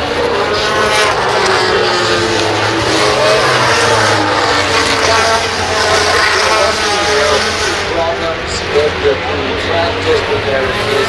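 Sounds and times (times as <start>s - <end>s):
racing motorcycles at high revs: 0.0s - 11.0s.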